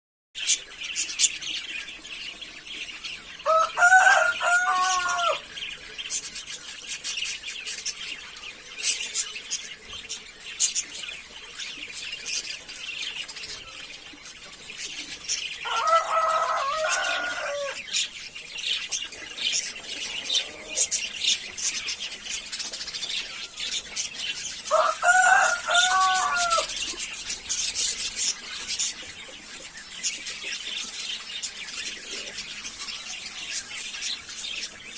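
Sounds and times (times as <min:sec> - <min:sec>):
budgies chirping and warbling: 0:00.4 - 0:34.9.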